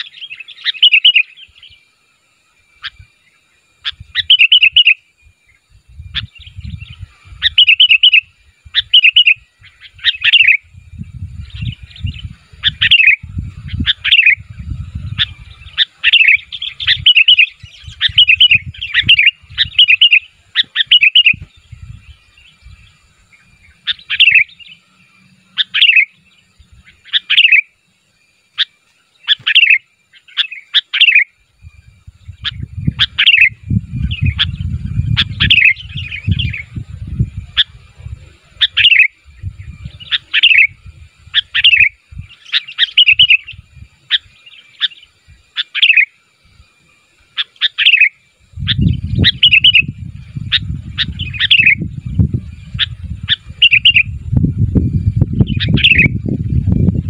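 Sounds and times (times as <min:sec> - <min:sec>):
bird whistling calls: 0:00.0 - 0:01.8, 0:02.8 - 0:27.8, 0:28.5 - 0:57.0.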